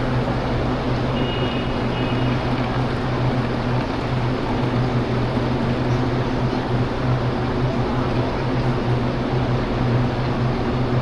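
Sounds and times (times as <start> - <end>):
low mechanical hum: 0.0 - 11.0
wash of noise: 0.0 - 11.0.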